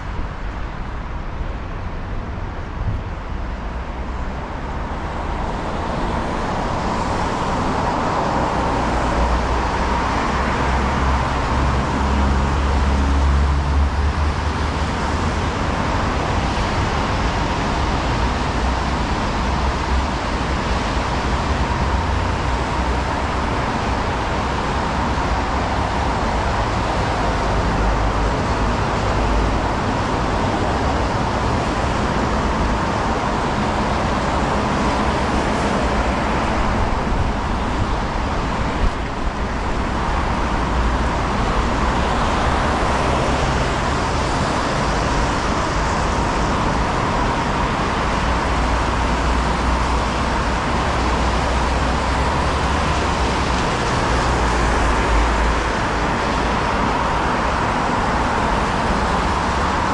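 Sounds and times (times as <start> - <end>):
cars passing: 0.0 - 59.9
low traffic rumble: 0.0 - 59.9.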